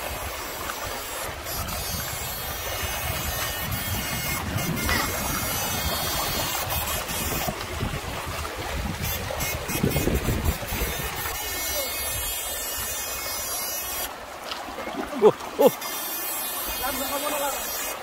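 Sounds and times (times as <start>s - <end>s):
wading and splashing in water: 0.0s - 18.0s.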